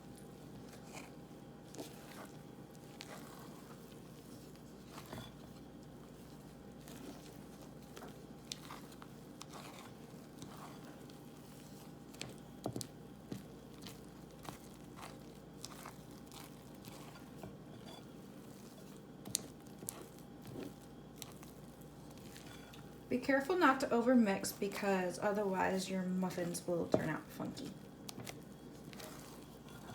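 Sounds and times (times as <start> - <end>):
batter being stirred: 0.0 - 29.9.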